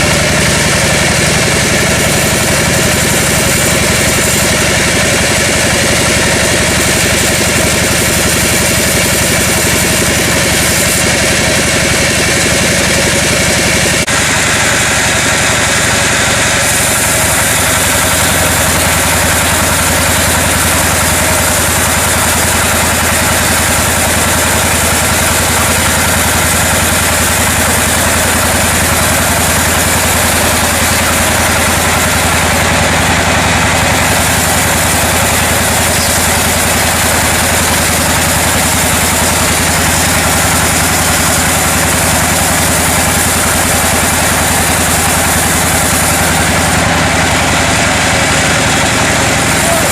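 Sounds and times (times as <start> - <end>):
sawmill machinery engine drone: 0.0 - 49.9.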